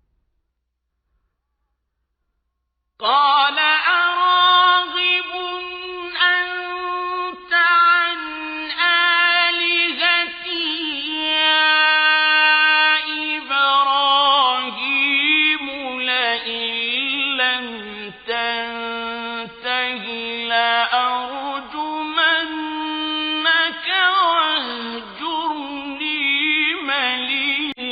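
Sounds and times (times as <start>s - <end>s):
man chanting melodically: 3.0s - 27.9s.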